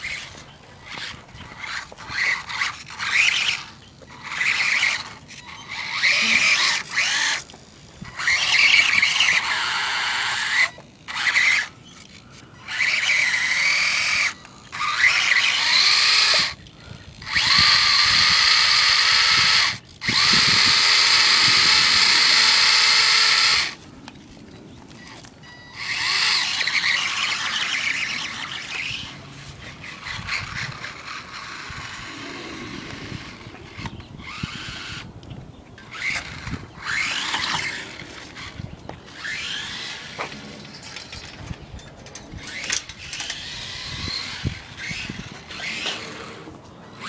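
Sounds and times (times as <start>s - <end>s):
toy truck electric motor whining: 0.0s - 23.8s, 24.9s - 35.2s, 35.8s - 47.0s.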